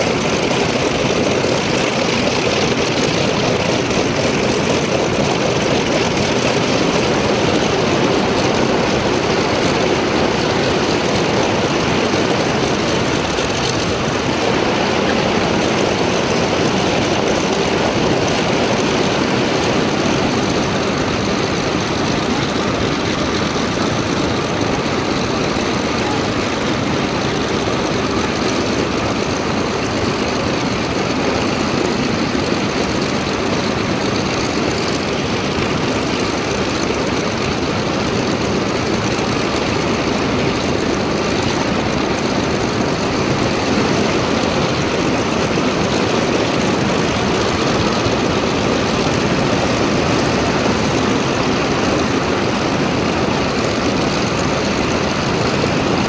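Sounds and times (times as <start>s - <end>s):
propeller aircraft engine running: 0.0s - 56.0s.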